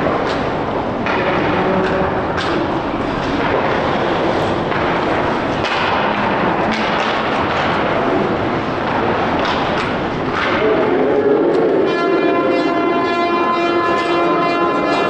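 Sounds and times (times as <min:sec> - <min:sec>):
crowd din in arena: 0:00.0 - 0:15.0.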